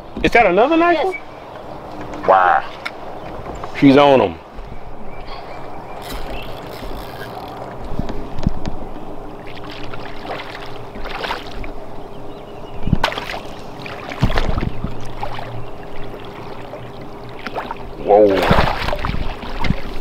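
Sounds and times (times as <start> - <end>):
wind and water noise: 0.0 - 20.0.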